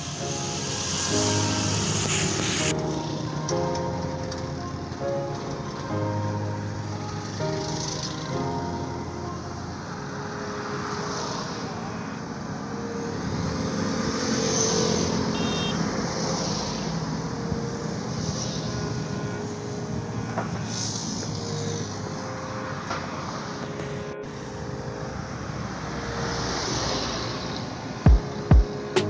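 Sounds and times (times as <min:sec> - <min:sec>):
motorbike engines passing: 0:00.0 - 0:28.0.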